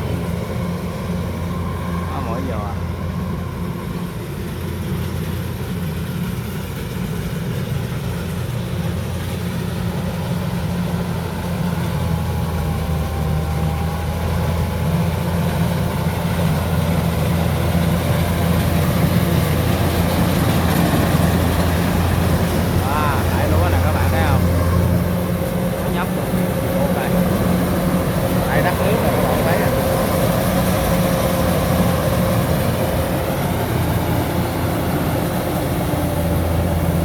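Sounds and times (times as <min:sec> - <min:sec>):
combine harvester engine: 0:00.0 - 0:37.0.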